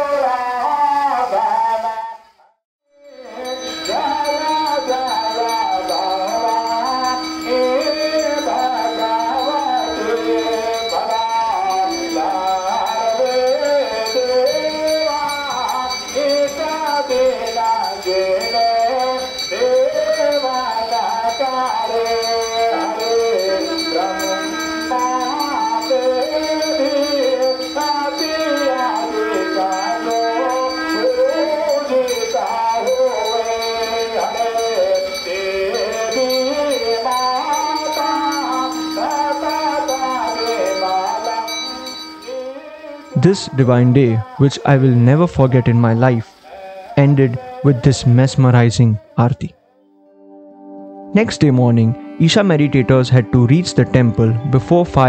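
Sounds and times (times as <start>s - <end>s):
devotional hymn singing: 0.0s - 2.3s, 3.1s - 55.0s
bells ringing: 3.0s - 46.4s, 49.9s - 55.0s.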